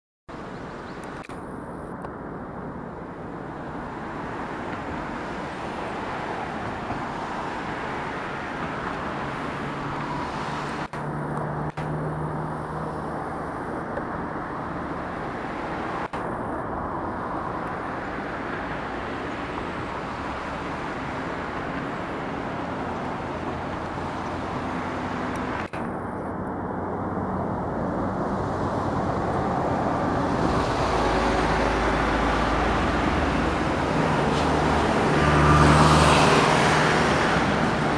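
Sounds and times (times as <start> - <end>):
outdoor background noise: 0.3 - 37.9.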